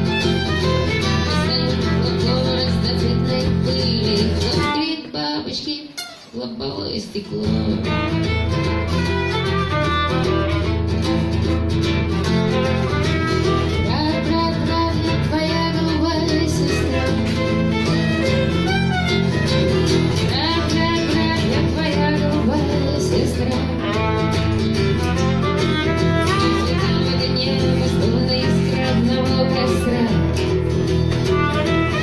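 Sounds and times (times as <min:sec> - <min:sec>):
violin melody with slides: 0:00.0 - 0:03.4, 0:07.8 - 0:30.3, 0:31.1 - 0:32.0
strummed acoustic guitar: 0:00.0 - 0:05.1, 0:07.2 - 0:32.0.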